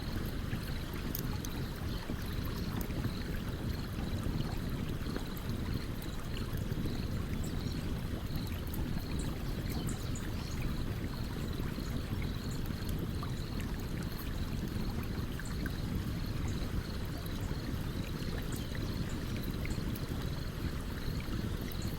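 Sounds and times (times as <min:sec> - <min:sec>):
stream water running: 0:00.0 - 0:21.9.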